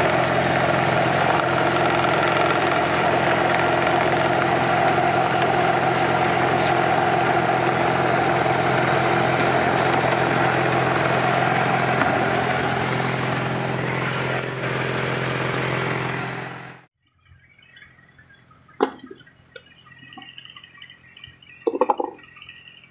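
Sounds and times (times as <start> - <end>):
vibrating table motor humming: 0.0 - 16.9, 18.1 - 22.9.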